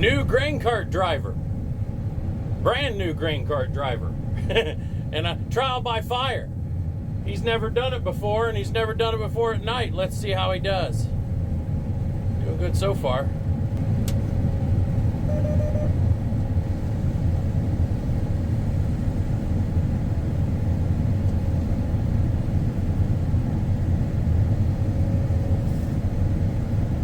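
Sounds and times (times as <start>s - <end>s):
combine harvester rumbling: 0.0s - 27.0s.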